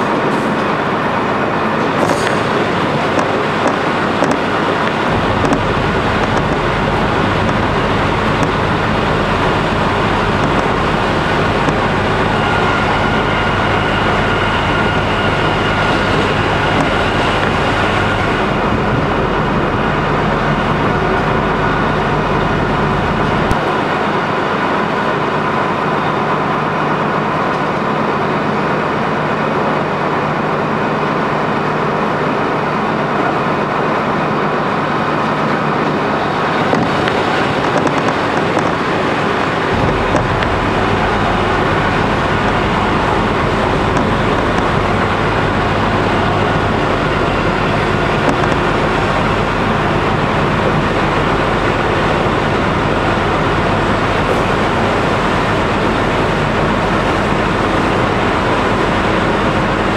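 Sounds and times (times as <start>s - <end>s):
diesel engine drone: 0.0s - 59.9s
wheel and rail noise: 0.0s - 59.9s.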